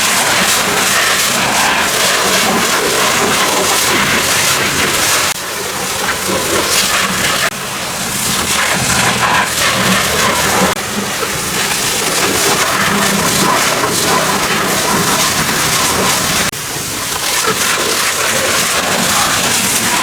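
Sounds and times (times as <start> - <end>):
pressure washer spraying water: 0.0 - 20.0.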